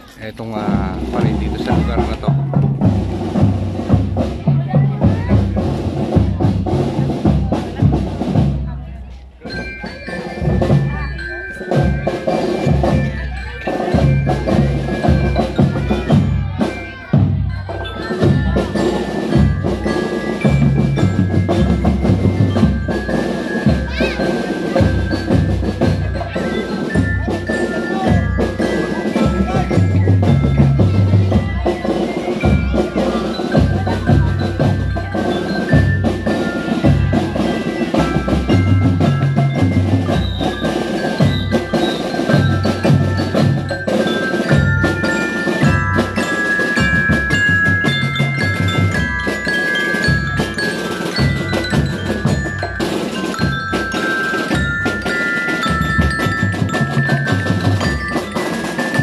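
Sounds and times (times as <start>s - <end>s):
bell lyres playing melody: 0.0s - 59.0s
marching drums beat: 0.0s - 59.0s.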